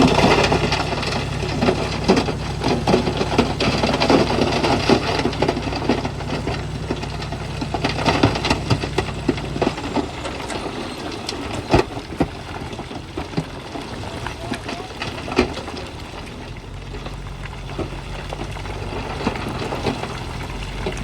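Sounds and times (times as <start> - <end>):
bulldozer diesel engine running: 0.0 - 21.0
rock and metal clatter: 0.0 - 21.0.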